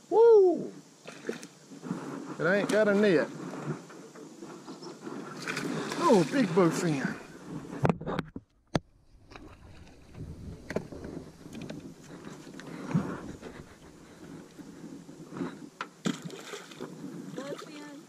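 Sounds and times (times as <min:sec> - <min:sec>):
water splashing and sloshing: 0:01.0 - 0:18.0
wind on microphone: 0:01.6 - 0:08.4, 0:09.2 - 0:18.0.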